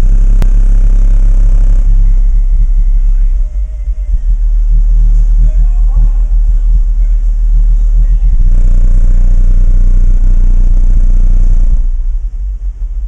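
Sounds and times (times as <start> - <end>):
loud deep bass from subwoofers: 0.0 - 13.0.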